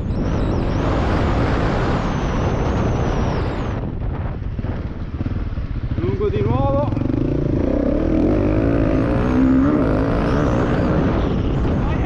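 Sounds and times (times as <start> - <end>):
motorcycle engine pulling hard: 0.4 - 12.0.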